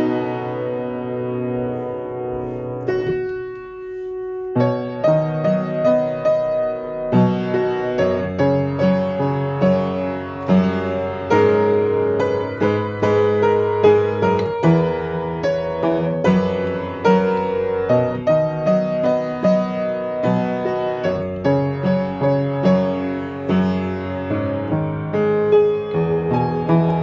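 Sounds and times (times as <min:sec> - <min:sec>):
solo piano melody: 0:00.0 - 0:27.0.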